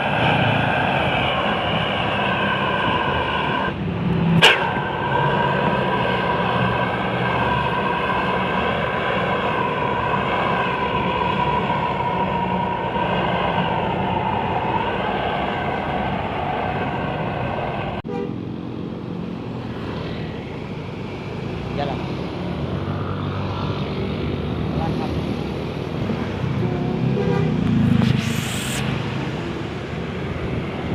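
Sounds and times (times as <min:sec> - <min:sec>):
engine and road noise: 0:00.0 - 0:30.9.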